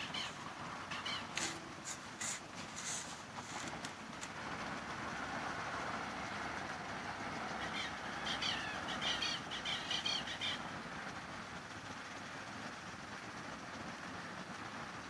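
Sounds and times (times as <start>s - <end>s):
fire engine and road noise: 0.0s - 15.0s.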